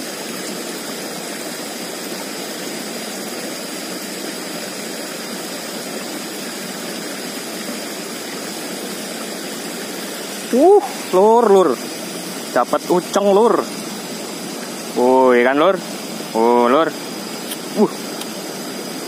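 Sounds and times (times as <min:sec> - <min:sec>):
stream rushing over cascade: 0:00.0 - 0:19.0.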